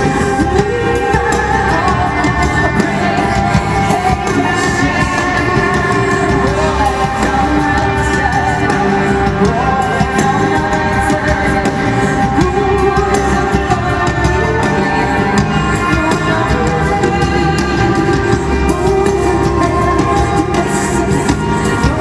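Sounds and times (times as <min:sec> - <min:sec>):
live rock band playing: 0:00.0 - 0:22.0
woman singing: 0:00.0 - 0:22.0.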